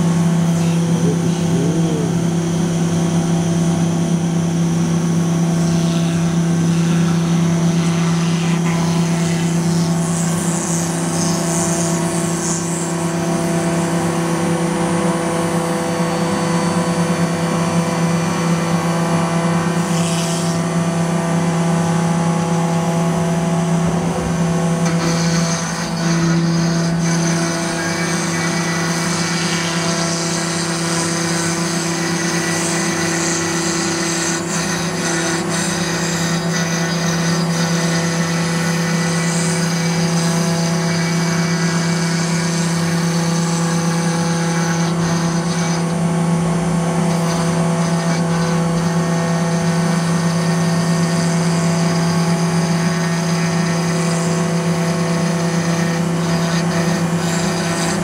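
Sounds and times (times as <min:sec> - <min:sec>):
router spindle whining: 0:00.0 - 0:58.0.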